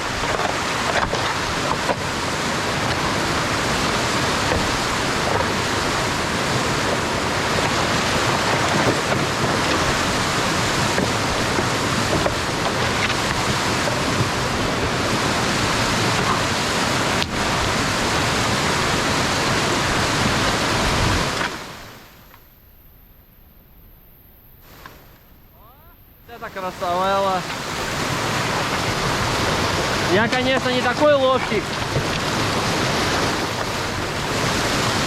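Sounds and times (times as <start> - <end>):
skis hissing over snow: 0.0 - 22.5, 24.6 - 35.0
wind buffeting microphone: 0.0 - 24.0, 24.6 - 35.0.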